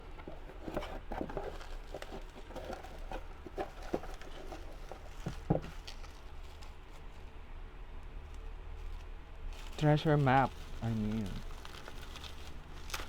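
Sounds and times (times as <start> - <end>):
hands handling packaging: 0.0 - 7.3, 8.8 - 13.0.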